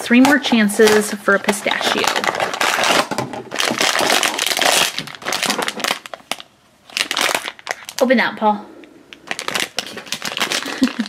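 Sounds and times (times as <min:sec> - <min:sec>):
foil bag crinkling: 0:00.0 - 0:08.1, 0:09.1 - 0:11.0.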